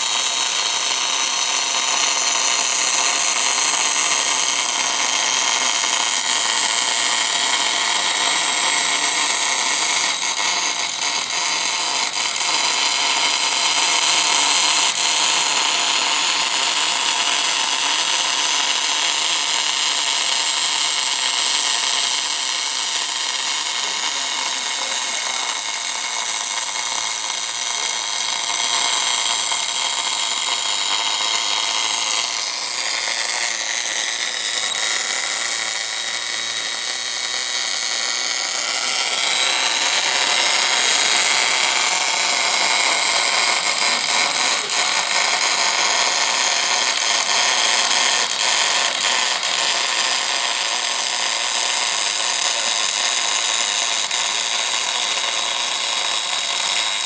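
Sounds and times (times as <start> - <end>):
welding arc sizzling hiss: 0.0 - 57.0.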